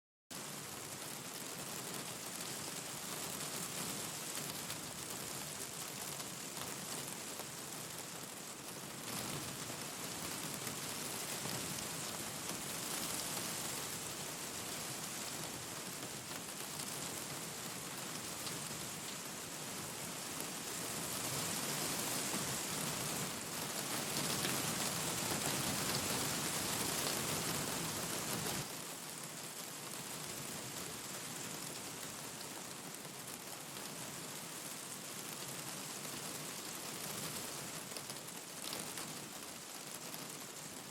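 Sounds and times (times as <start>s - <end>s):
steady rain hiss: 0.3s - 40.9s.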